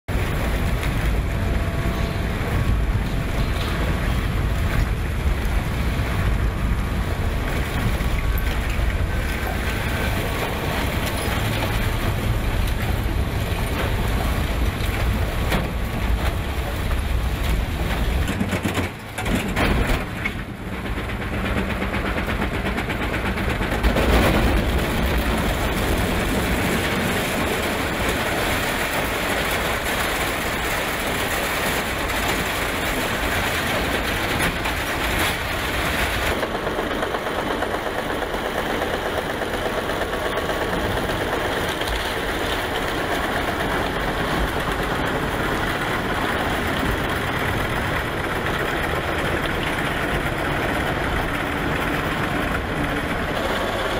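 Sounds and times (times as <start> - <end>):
shredder grinding rumble: 0.1 - 53.9.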